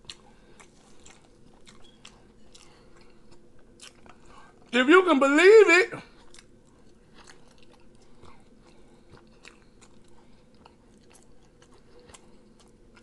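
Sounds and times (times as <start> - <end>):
person chewing: 0.0 - 4.7, 6.0 - 13.0.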